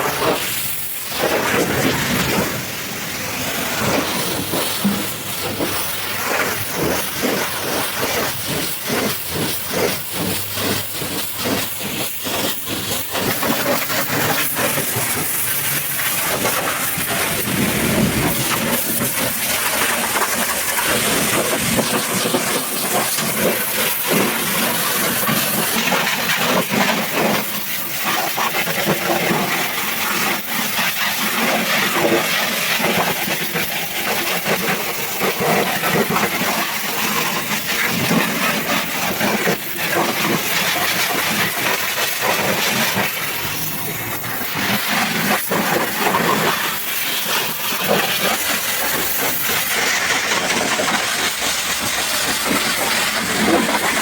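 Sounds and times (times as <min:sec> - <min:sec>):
pressure washer jet spraying: 0:00.0 - 0:54.0.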